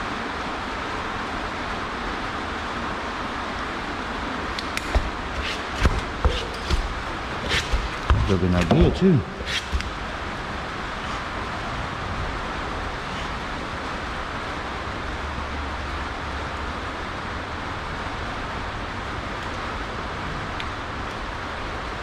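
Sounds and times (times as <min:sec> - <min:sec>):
continuous hiss: 0:00.0 - 0:22.0.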